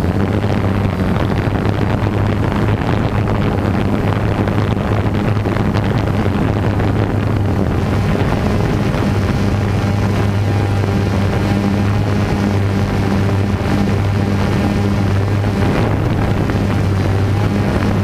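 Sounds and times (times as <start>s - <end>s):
drone motors humming: 0.0s - 18.0s
wind noise on microphone: 0.0s - 18.0s.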